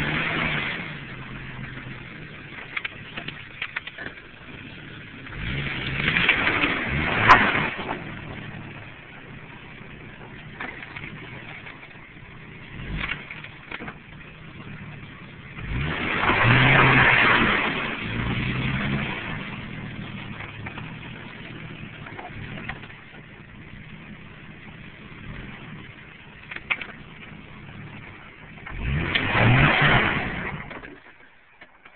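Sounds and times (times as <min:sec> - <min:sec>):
car engine revving: 0:00.0 - 0:31.2
tire scrabbling through dirt: 0:00.0 - 0:31.9.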